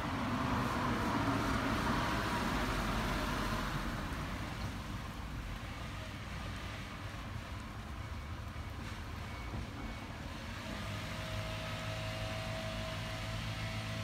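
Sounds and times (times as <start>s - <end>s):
passing vehicle rumble: 0.0s - 14.0s.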